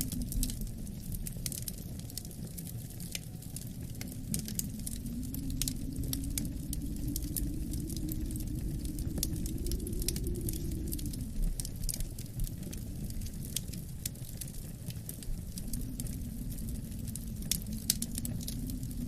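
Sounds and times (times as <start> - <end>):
howling wind: 0.0 - 19.0
wood fire crackling: 0.0 - 19.0.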